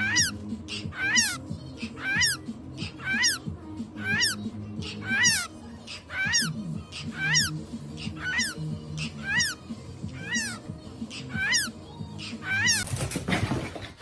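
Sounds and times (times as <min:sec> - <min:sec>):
cockatiel chirping: 0:00.0 - 0:12.8.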